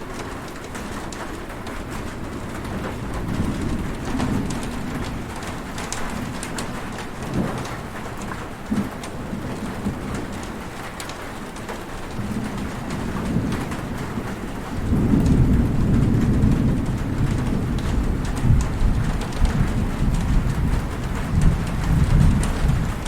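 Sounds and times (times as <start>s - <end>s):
heavy rain falling: 0.0s - 23.0s
low rumble of thunder: 0.0s - 23.0s.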